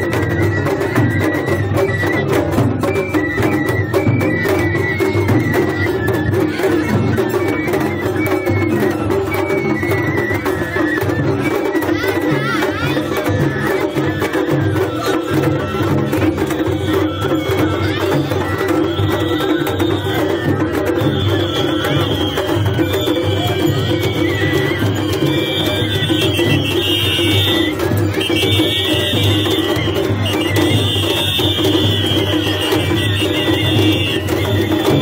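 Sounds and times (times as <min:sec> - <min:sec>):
high flute melody: 0:00.0 - 0:35.0
taiko drums beating: 0:00.0 - 0:35.0.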